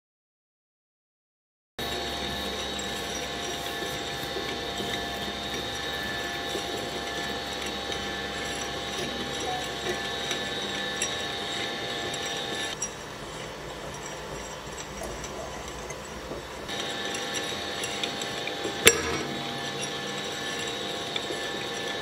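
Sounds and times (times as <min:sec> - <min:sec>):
shredding machine humming: 0:01.8 - 0:22.0.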